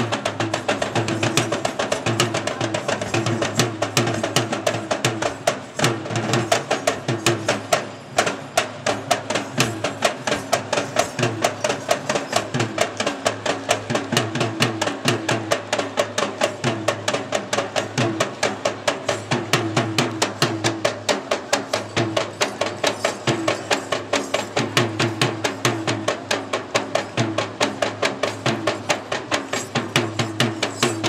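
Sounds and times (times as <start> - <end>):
double-headed drum beating fast: 0.0 - 31.0.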